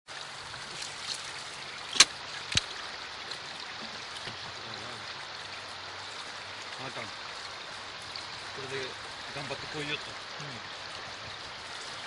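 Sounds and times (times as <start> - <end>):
water running over rocks: 0.0 - 12.0.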